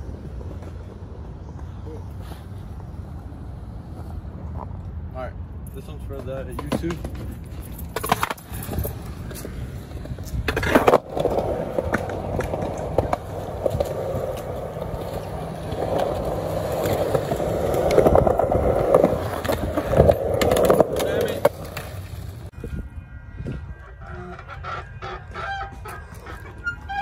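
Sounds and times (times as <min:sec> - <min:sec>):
skateboard wheels rolling on concrete: 0:00.0 - 0:22.9.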